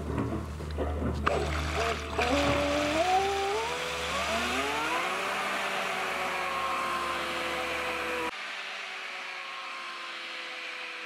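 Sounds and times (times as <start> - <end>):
electric motor whining: 1.3 - 11.0.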